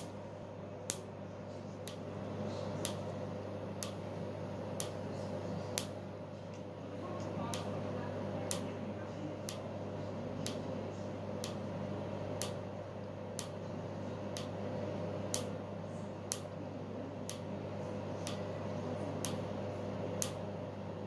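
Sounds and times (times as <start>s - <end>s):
laser unit humming: 0.0s - 21.0s.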